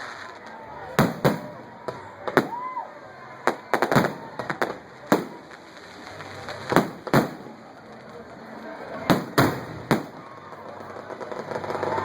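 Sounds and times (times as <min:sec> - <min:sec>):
firecrackers banging: 0:00.0 - 0:02.7, 0:03.4 - 0:12.0.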